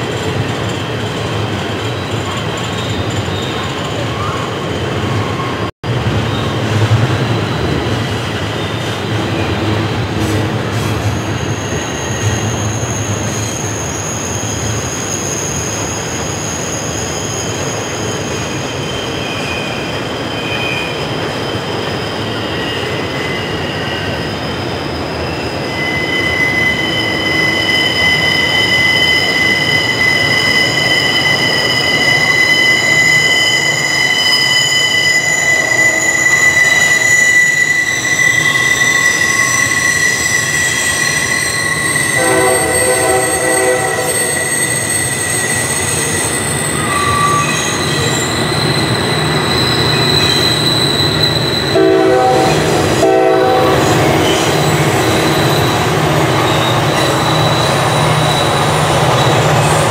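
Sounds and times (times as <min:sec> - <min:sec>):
train wheels squealing: 0:00.0 - 0:59.9.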